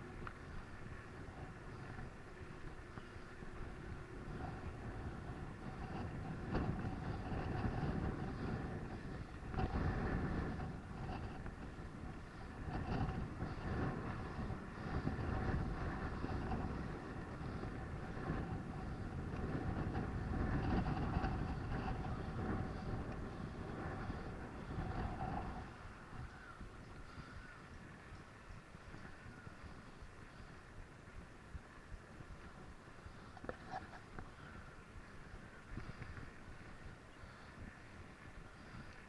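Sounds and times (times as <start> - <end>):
bicycle rumbling and rattling: 0.0 - 39.0.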